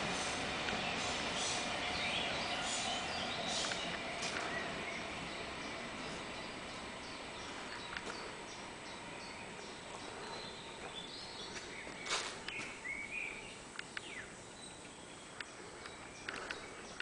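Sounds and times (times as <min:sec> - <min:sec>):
outdoor background hiss: 0:00.0 - 0:17.0
birds chirping: 0:00.1 - 0:17.0.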